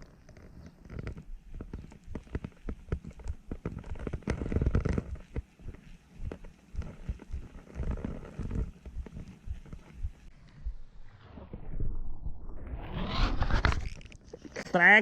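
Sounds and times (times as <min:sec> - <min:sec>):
crackling clicks and knocks: 0:00.0 - 0:11.7, 0:13.4 - 0:15.0.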